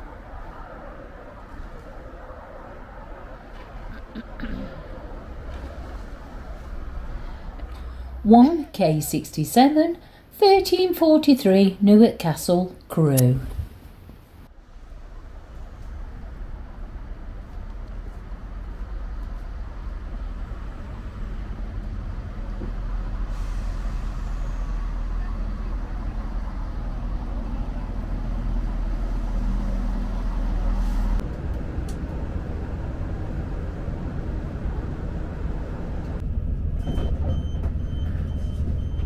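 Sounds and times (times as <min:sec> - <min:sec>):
diesel train engine drone: 0:00.0 - 0:12.5, 0:14.2 - 0:39.0.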